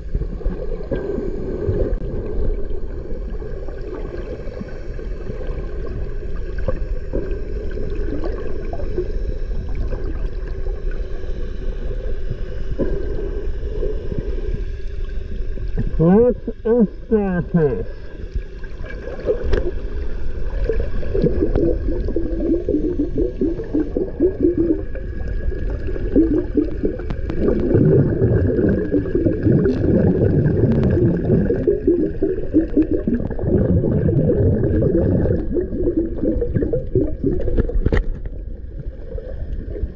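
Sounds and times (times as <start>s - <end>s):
underwater water sloshing: 0.0s - 39.9s.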